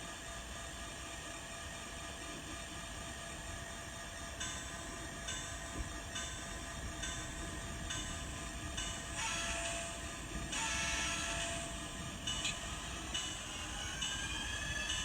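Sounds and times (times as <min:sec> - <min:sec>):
diesel locomotive engine sound: 0:00.0 - 0:15.0.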